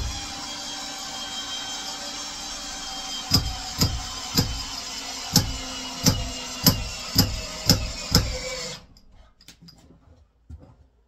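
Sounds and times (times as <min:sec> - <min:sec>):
cordless drill motor whining: 0:00.0 - 0:09.1.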